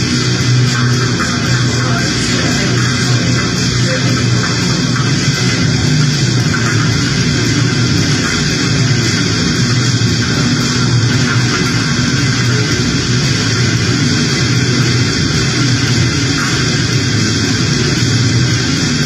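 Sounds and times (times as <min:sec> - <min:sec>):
distorted noise music: 0:00.0 - 0:19.0
low rumble: 0:00.0 - 0:19.0.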